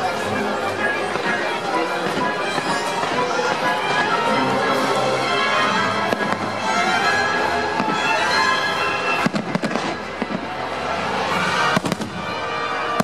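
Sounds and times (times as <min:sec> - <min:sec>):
fireworks show music: 0:00.0 - 0:13.0.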